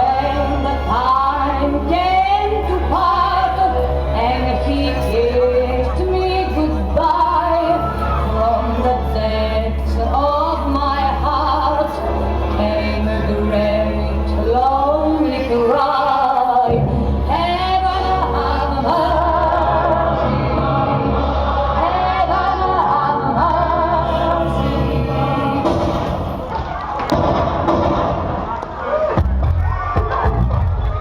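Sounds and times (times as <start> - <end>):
choir singing: 0.0 - 26.6.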